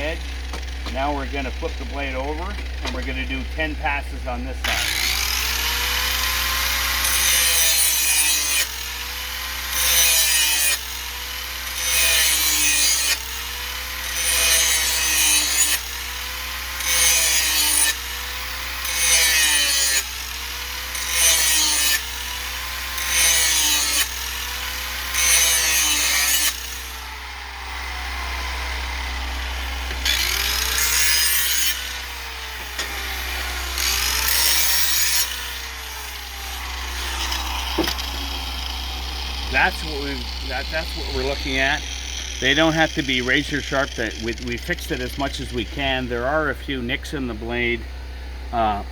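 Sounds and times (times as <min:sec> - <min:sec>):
electric grinder motor: 0:04.6 - 0:46.4.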